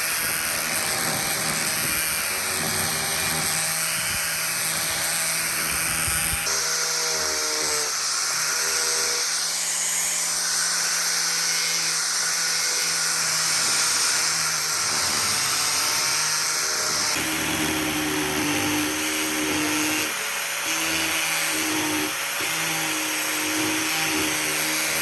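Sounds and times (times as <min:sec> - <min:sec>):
power tool whining: 0:00.0 - 0:25.0.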